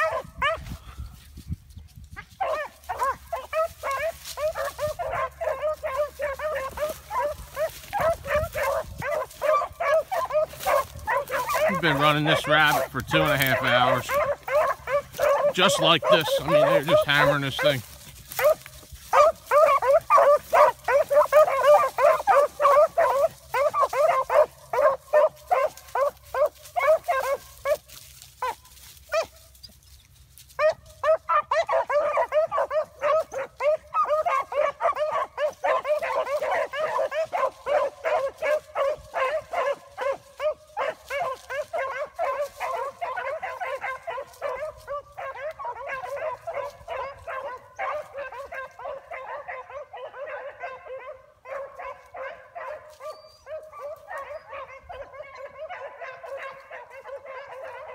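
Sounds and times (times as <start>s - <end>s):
hounds baying: 0.0s - 1.3s, 2.2s - 57.9s.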